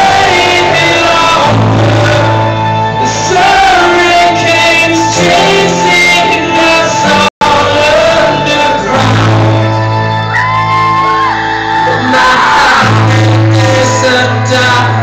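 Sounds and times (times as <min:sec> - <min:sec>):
acoustic rock music with guitar: 0:00.0 - 0:15.0
person singing: 0:00.0 - 0:15.0.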